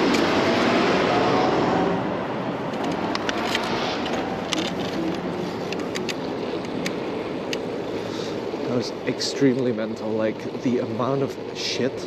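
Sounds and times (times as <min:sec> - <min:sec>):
bicycle clicks and rattles: 0:00.0 - 0:00.4, 0:02.5 - 0:12.0
road traffic noise: 0:00.0 - 0:12.0.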